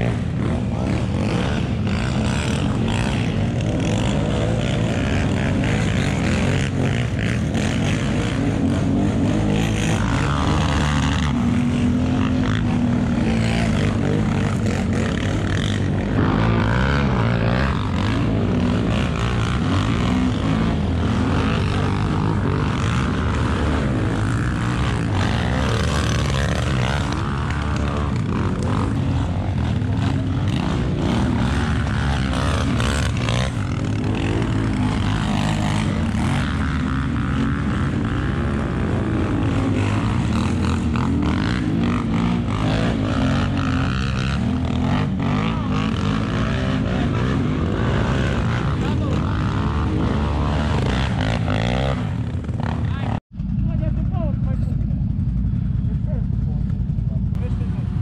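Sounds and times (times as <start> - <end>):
quad bike engines revving: 0.0 - 58.0.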